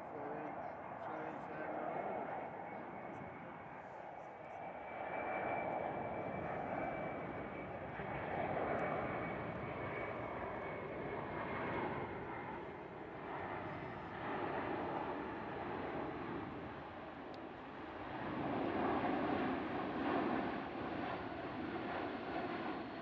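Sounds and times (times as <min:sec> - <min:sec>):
airplane flying over: 0:00.0 - 0:23.0.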